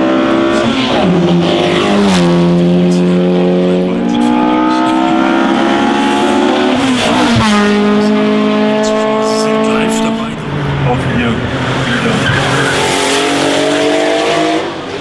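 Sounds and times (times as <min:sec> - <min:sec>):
racing car engine revving: 0:00.0 - 0:15.0.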